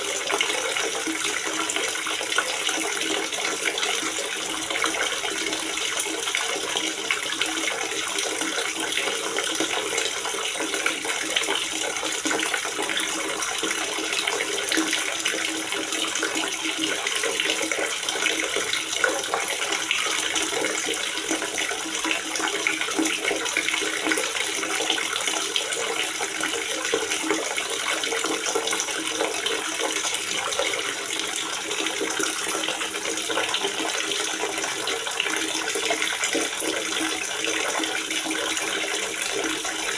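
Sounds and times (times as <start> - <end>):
water gurgling into reservoir: 0.0 - 39.9.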